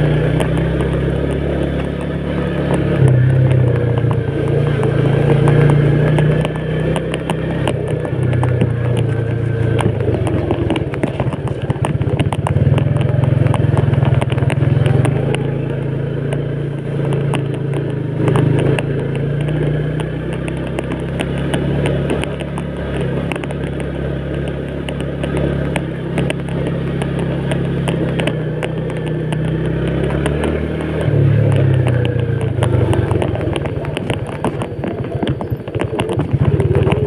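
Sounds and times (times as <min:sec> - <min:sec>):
motorcycle clattering over stones: 0:00.0 - 0:37.0
small motorcycle engine running: 0:00.0 - 0:37.0.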